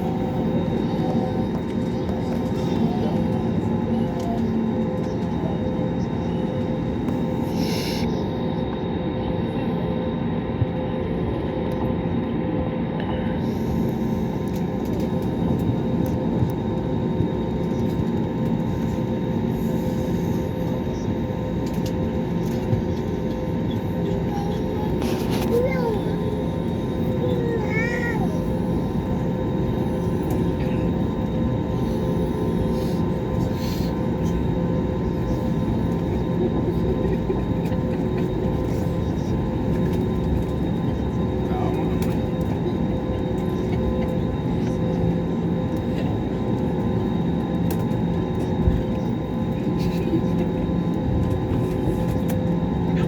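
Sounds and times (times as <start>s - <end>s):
jet engines rumbling and whining: 0.0s - 53.0s.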